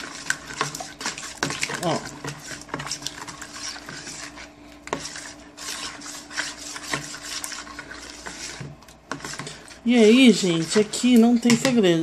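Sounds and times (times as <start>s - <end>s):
spoon scraping plastic bowl: 0.0s - 11.9s.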